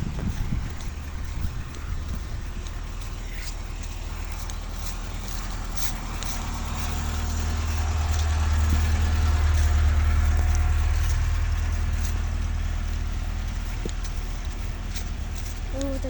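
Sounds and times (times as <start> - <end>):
vehicle passing on wet road: 0.0 - 16.0.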